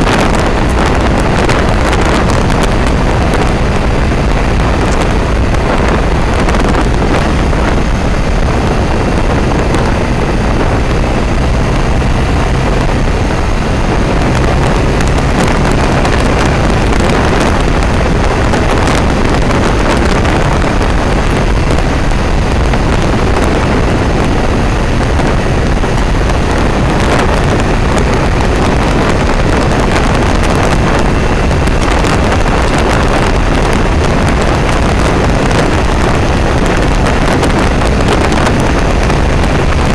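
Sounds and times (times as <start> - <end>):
motorcycle engine hum: 0.0 - 39.9
wind rush on microphone: 0.0 - 39.9.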